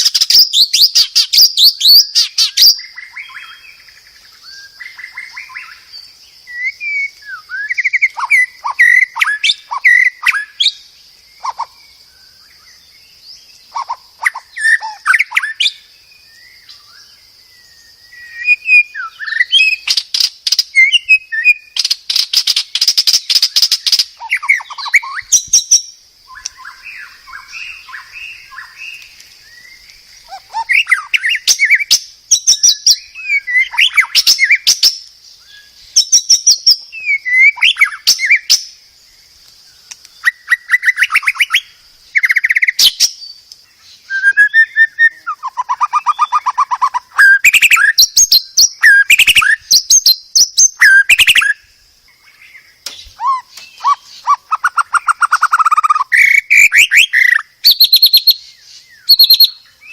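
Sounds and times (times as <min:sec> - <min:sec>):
bird singing whistled phrases: 0:00.0 - 0:10.8, 0:11.4 - 0:38.7, 0:40.2 - 0:43.4, 0:44.0 - 0:59.9
faint high hiss: 0:00.0 - 0:59.9.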